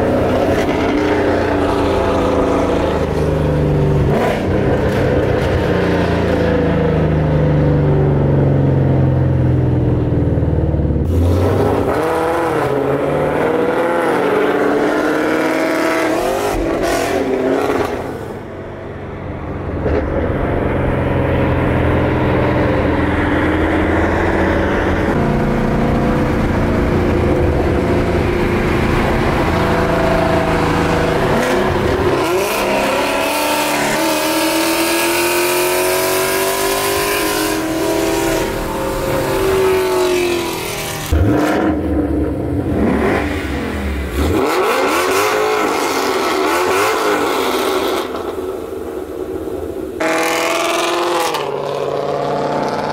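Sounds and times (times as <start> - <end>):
car engines accelerating hard: 0.0 - 52.9.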